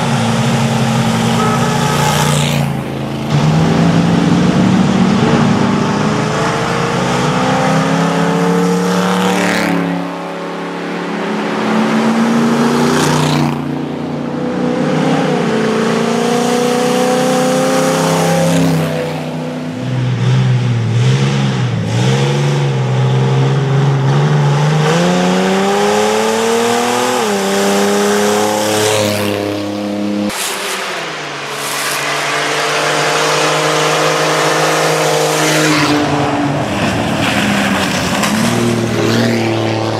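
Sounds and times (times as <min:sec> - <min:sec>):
race vehicle engines revving: 0:00.0 - 0:39.9.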